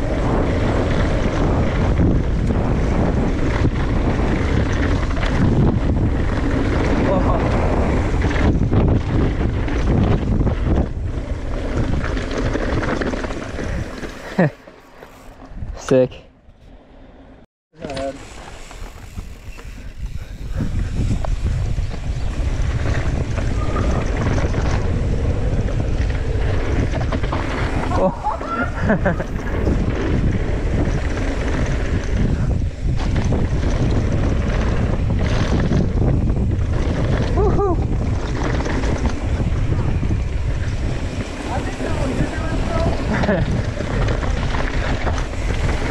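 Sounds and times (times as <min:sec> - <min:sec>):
wind buffeting microphone: 0:00.0 - 0:14.6, 0:18.1 - 0:45.9
tyres rattling over gravel: 0:02.8 - 0:15.4, 0:17.8 - 0:20.6, 0:21.2 - 0:45.9.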